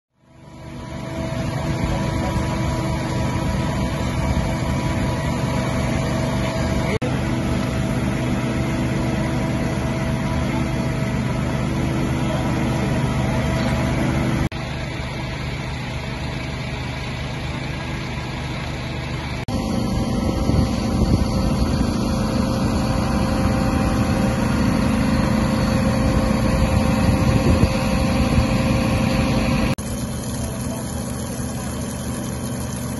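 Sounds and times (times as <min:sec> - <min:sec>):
diesel engines idling: 0:00.2 - 0:32.9.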